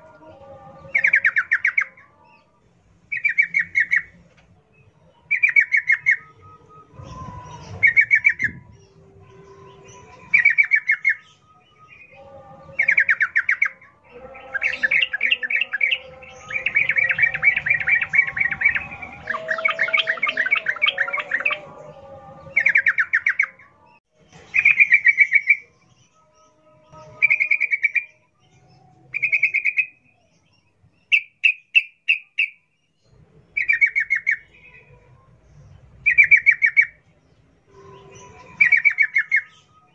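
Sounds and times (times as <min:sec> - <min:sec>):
bird singing bubbling song: 0:00.9 - 0:02.1, 0:03.1 - 0:04.2, 0:04.8 - 0:23.7, 0:24.4 - 0:37.0, 0:37.7 - 0:39.9.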